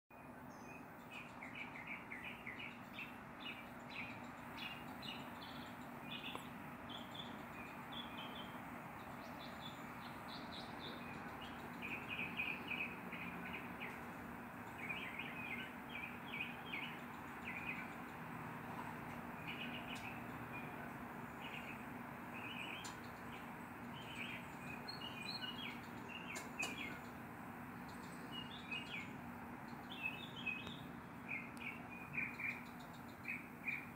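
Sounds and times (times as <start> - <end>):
outdoor background noise: 0.1 - 33.9
steady low hum: 0.2 - 33.9
high chirping calls: 0.4 - 33.9.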